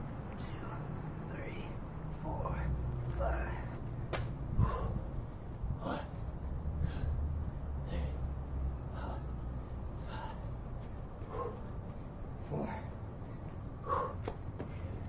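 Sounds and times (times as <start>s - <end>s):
steady low rumble: 0.0s - 15.0s
man breathing hard: 2.4s - 15.0s.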